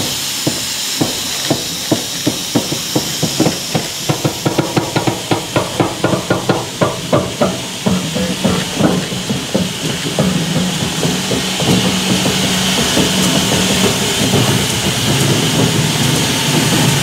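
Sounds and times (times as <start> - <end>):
steam locomotive hissing: 0.0 - 17.0
turntable clicking and knocking: 0.0 - 17.0.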